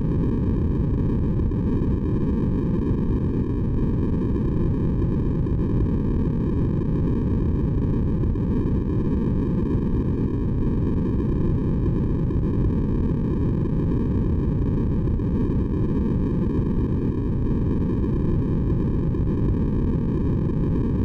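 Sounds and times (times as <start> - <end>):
deep low white noise: 0.0 - 21.0.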